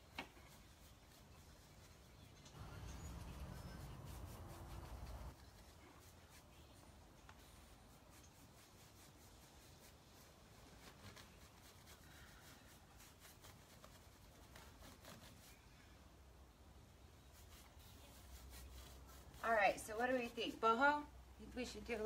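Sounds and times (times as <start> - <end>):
paintbrush scratching on wood: 0.0 - 15.6, 17.2 - 20.8.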